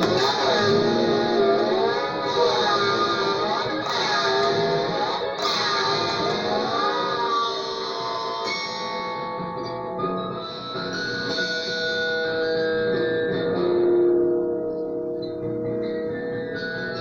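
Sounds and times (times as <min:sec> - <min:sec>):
ringing guitar-like notes: 0:00.0 - 0:17.0.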